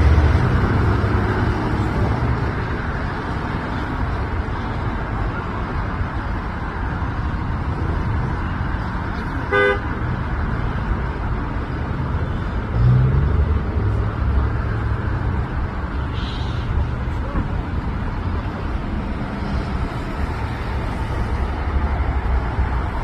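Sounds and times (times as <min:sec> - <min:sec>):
low vehicle rumble: 0:00.0 - 0:23.0
road traffic noise: 0:00.0 - 0:23.0.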